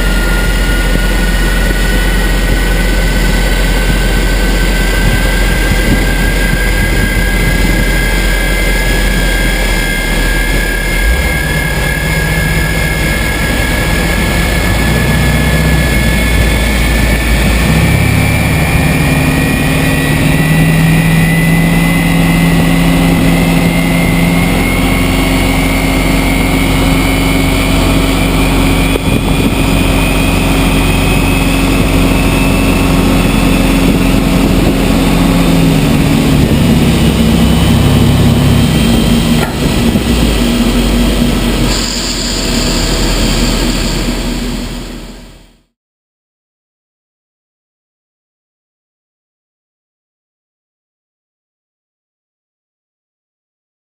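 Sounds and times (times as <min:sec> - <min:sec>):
jet engine whine rising: 0:00.0 - 0:45.8
tug engine drone: 0:00.0 - 0:45.8.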